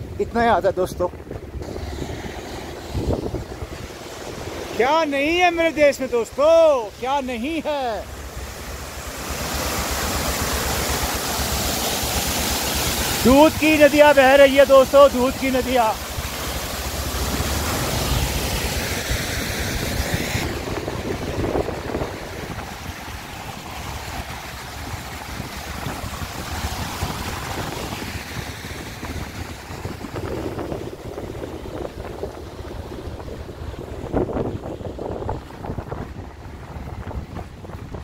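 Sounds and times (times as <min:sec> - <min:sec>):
wind on microphone: 0:00.0 - 0:14.2, 0:14.8 - 0:38.0
stream rushing: 0:00.0 - 0:38.0
waterfall rushing over rocks: 0:00.0 - 0:38.0.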